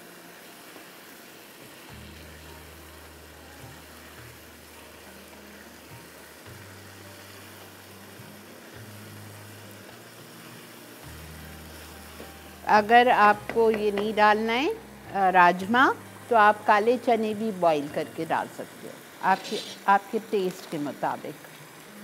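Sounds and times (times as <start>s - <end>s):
food frying in oil: 0.0s - 22.0s.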